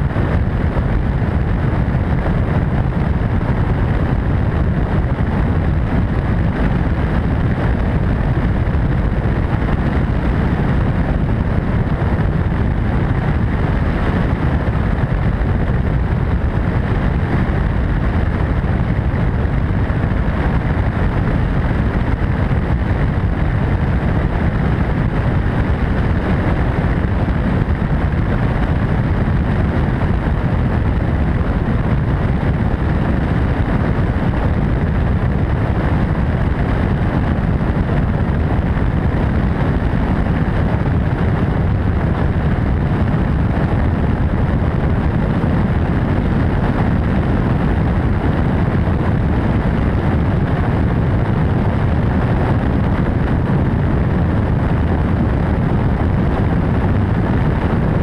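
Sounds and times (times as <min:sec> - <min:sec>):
helicopter in flight: 0:00.0 - 0:58.0
wind buffeting microphone: 0:00.0 - 0:58.0.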